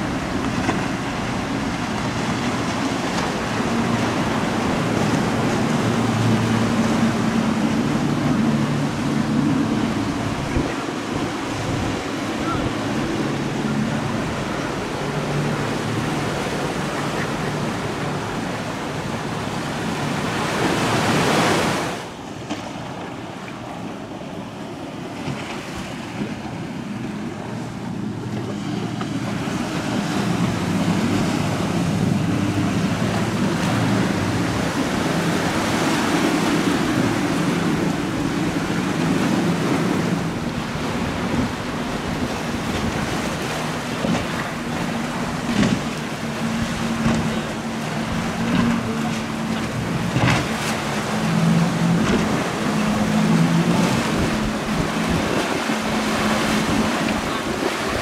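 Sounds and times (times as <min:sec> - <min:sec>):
boat engines droning: 0:00.0 - 0:58.0
waves: 0:00.0 - 0:58.0
wind: 0:00.0 - 0:58.0.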